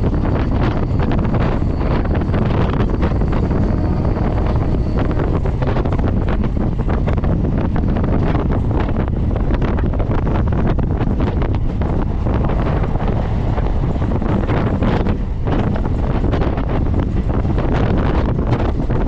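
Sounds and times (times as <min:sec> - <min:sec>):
train low rumble: 0:00.0 - 0:19.0
wind buffeting microphone: 0:00.0 - 0:19.0.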